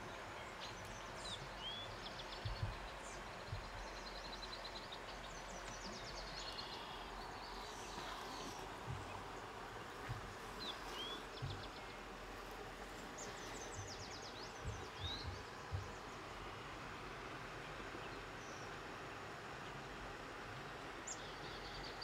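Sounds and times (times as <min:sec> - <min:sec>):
background hiss: 0:00.0 - 0:22.0
birds chirping: 0:00.0 - 0:22.0.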